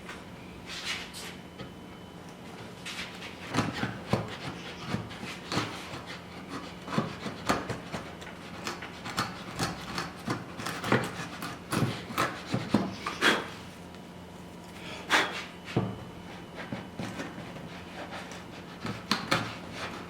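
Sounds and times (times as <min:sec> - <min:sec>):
hand tool scraping wood: 0:02.9 - 0:13.7, 0:14.8 - 0:20.0.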